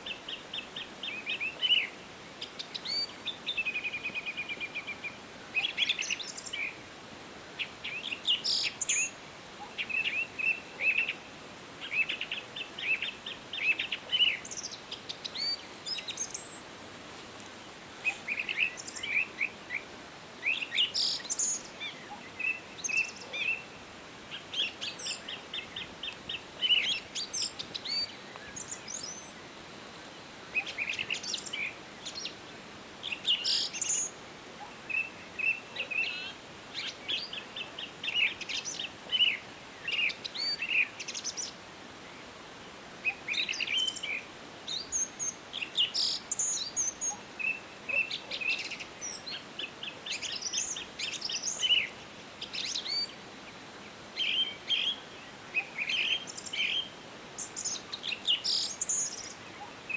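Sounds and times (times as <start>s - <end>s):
faint background hiss: 0.0s - 59.9s
songbirds chirping and trilling: 0.0s - 59.9s.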